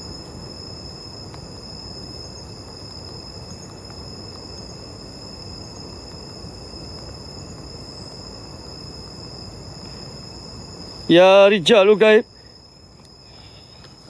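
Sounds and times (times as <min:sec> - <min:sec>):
crickets chirping: 0:00.0 - 0:14.0
steady hiss: 0:00.0 - 0:14.0.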